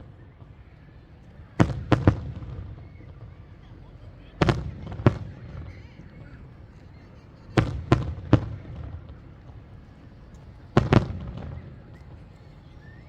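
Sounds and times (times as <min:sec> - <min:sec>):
rolling echo: 0:00.0 - 0:13.0.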